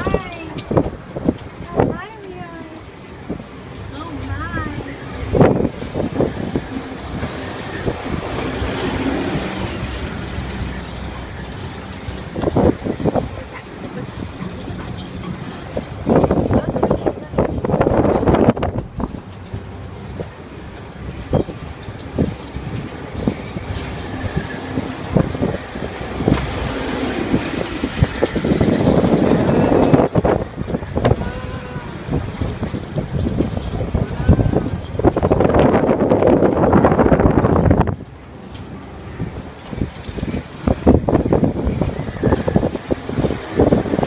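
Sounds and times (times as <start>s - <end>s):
ferris wheel mechanical rumble: 0.0s - 44.0s.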